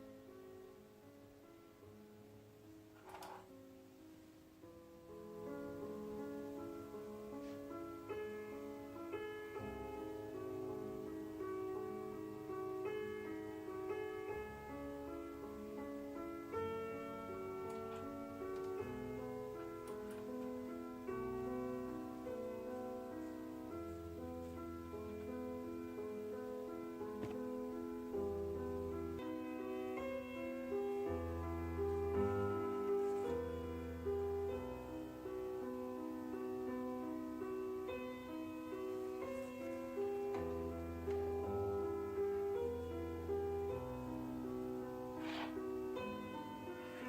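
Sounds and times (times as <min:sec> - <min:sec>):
instrumental keyboard music: 0:00.0 - 0:47.0.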